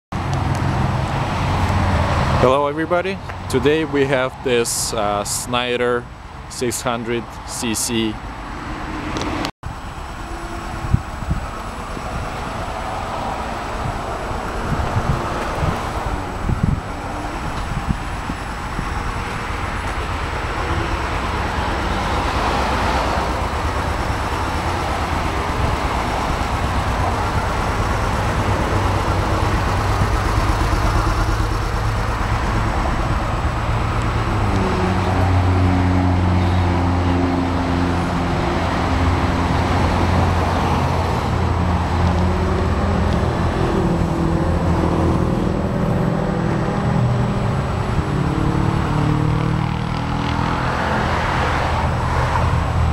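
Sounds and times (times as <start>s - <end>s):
continuous rushing noise: 0.2s - 52.9s
vehicle engine running: 8.2s - 52.9s.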